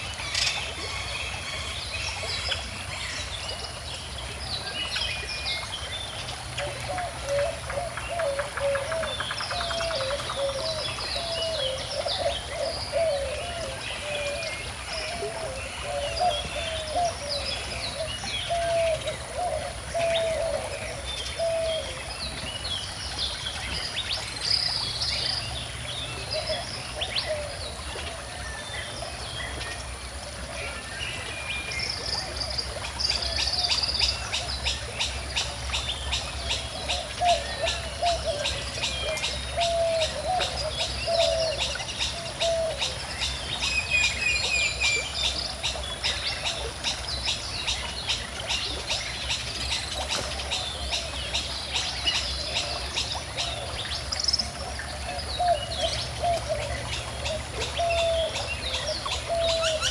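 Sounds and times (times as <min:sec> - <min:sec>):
birds calling and chirping: 0:00.0 - 0:59.9
flowing stream: 0:00.0 - 0:59.9.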